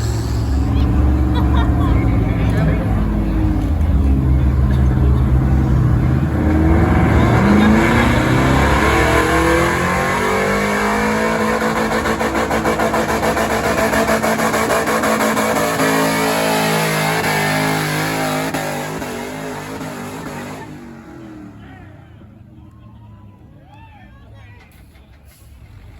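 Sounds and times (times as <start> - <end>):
truck engine at full throttle: 0.0 - 23.5.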